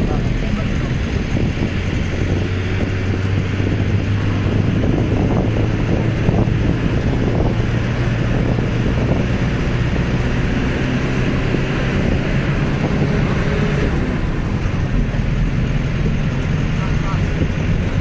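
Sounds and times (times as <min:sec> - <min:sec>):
vehicle engine humming: 0:00.0 - 0:18.0
wind on microphone: 0:00.0 - 0:18.0.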